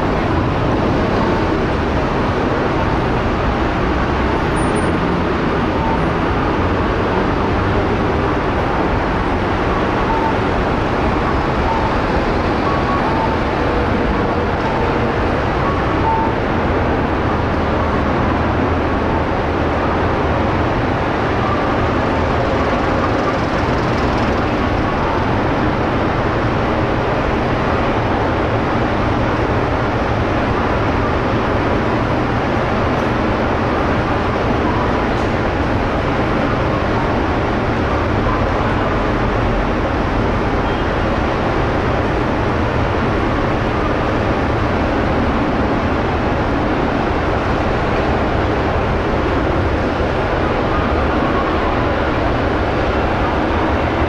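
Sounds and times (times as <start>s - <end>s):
traffic noise: 0.0s - 54.0s.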